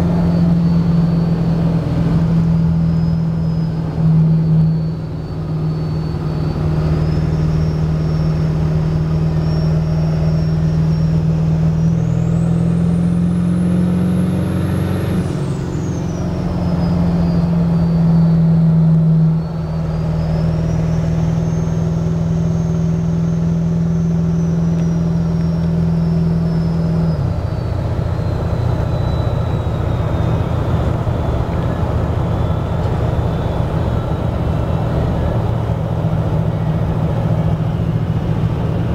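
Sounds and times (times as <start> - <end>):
diesel engine running: 0.0 - 38.9
turbocharger whistle: 0.0 - 38.9.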